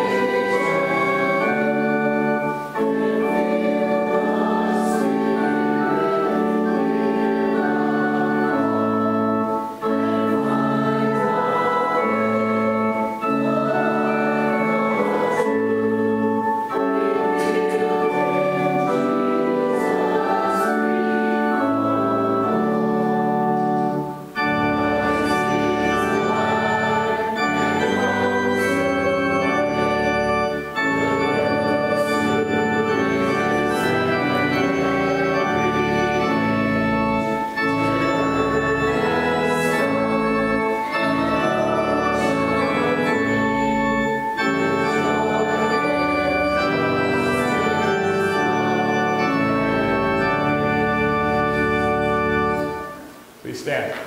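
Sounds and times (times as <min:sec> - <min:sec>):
church organ chords: 0:00.0 - 0:53.4.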